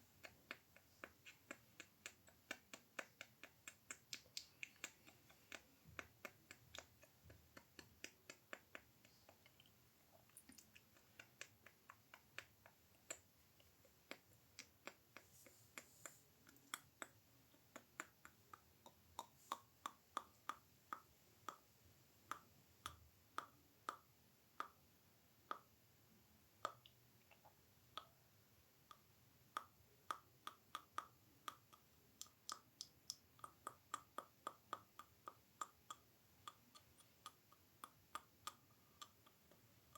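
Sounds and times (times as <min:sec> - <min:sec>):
tongue clicks and mouth pops: 0:00.2 - 0:21.6, 0:26.6 - 0:28.2, 0:28.9 - 0:39.6.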